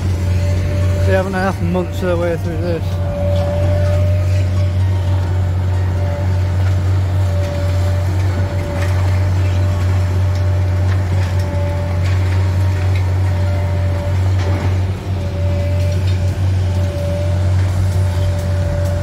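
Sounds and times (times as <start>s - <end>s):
excavator low drone: 0.0s - 19.0s
high-pitched whine: 0.0s - 19.0s.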